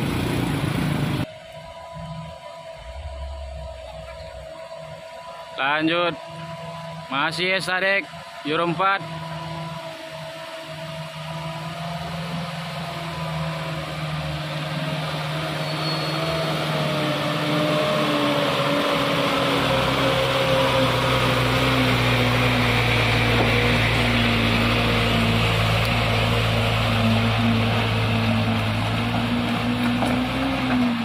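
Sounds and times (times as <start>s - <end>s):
truck diesel engine labouring: 0.0s - 31.0s.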